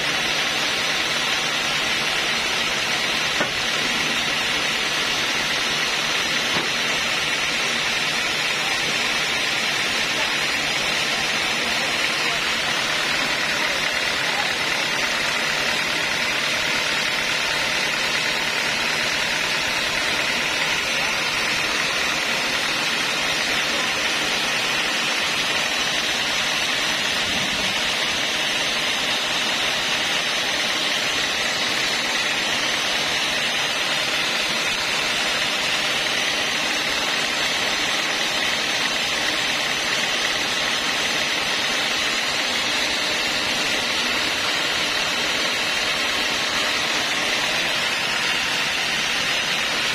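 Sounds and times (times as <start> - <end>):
band sawmill running: 0.0 - 49.9.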